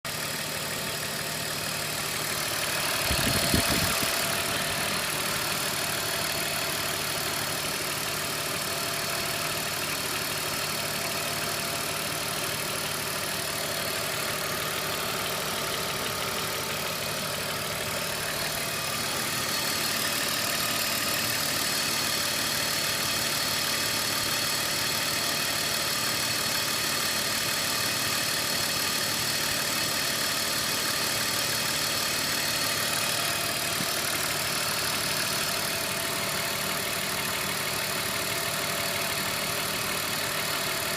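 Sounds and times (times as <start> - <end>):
car engine idling with knock: 0.1 - 40.9.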